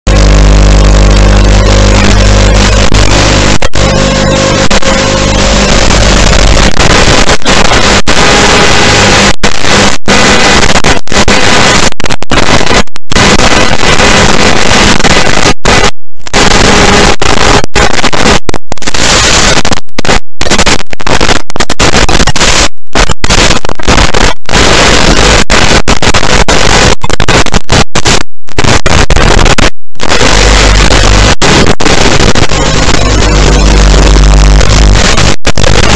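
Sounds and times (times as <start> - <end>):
radio static hiss: 0.0 - 35.9.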